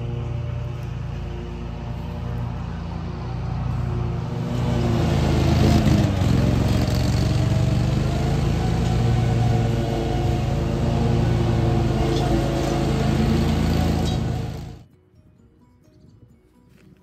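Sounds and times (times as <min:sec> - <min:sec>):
ride-on lawn mower engine: 0:00.0 - 0:14.9.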